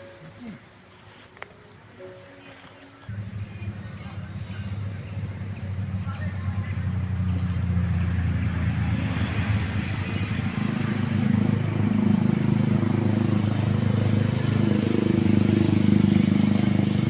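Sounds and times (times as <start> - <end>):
vehicle engine running: 3.1 - 17.0.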